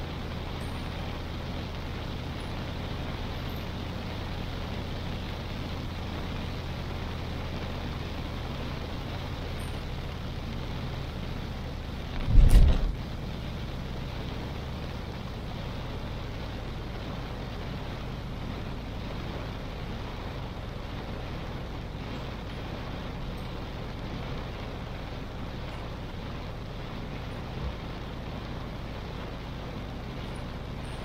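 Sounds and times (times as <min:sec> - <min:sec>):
engine and road rumble: 0:00.0 - 0:31.0
rain and tyre spray hiss: 0:00.0 - 0:31.0.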